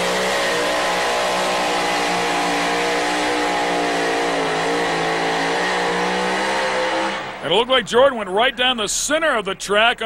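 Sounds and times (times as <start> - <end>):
supercharged truck engine revving: 0.0 - 9.2.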